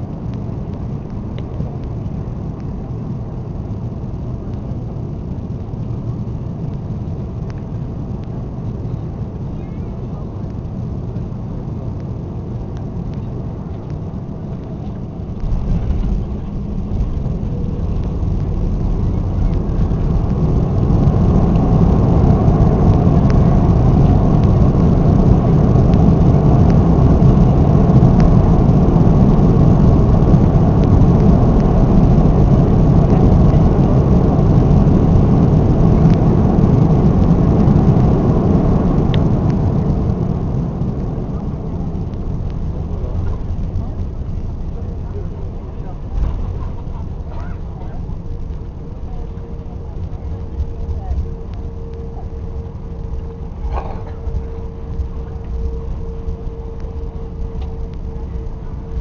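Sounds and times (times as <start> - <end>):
aircraft cabin rumble: 0.0 - 59.0
jet engines roaring: 0.0 - 59.0.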